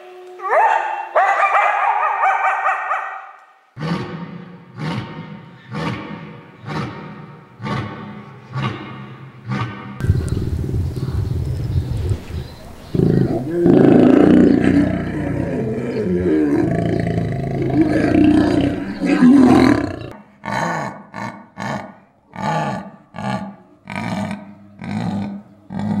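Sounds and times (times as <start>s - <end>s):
big cat rhythmic grunting: 3.8s - 11.4s, 12.2s - 26.0s
lions growling: 3.8s - 26.0s.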